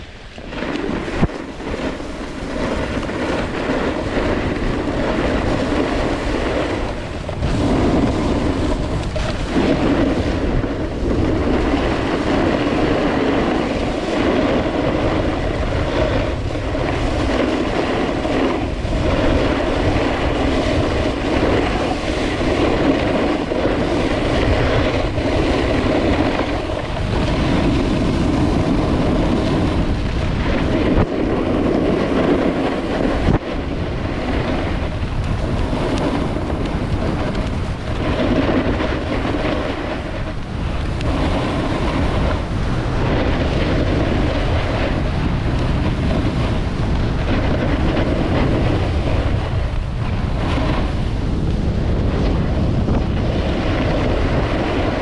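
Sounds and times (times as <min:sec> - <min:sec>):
snowboard scraping on snow: 0:00.0 - 0:55.0
wind buffeting microphone: 0:00.0 - 0:55.0.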